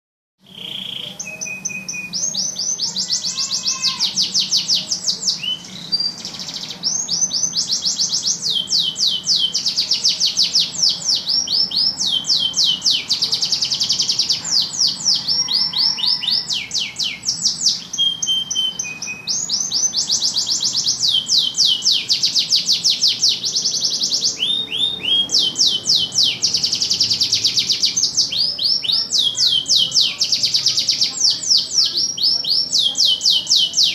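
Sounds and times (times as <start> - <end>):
canary singing trills: 0.4 - 33.9.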